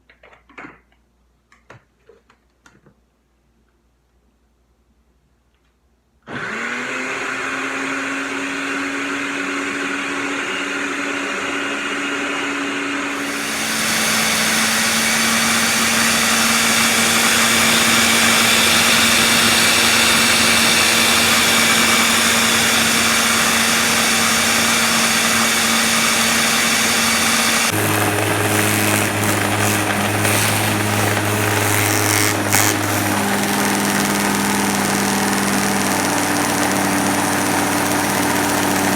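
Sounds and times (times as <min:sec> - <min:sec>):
blender motor running: 0:06.3 - 0:38.9.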